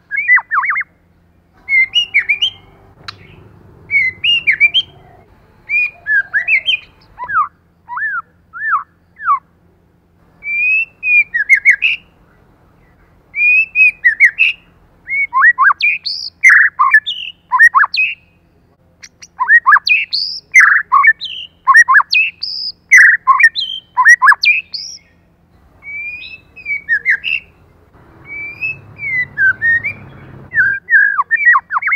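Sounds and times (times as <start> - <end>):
bird singing whistled phrases: 0.1 - 0.9, 1.7 - 9.4, 10.4 - 12.1, 13.4 - 18.3, 19.0 - 25.2, 25.8 - 27.5, 28.2 - 31.9.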